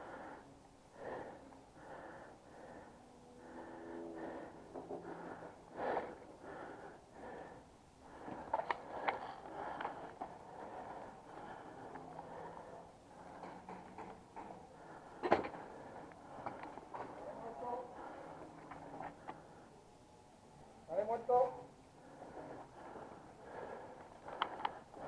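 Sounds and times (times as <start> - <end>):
person breathing: 0.0 - 20.7, 21.6 - 25.0.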